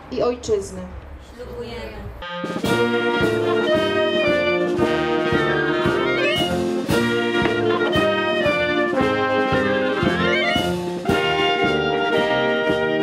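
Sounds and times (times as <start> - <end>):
military wind band playing: 2.2 - 13.0.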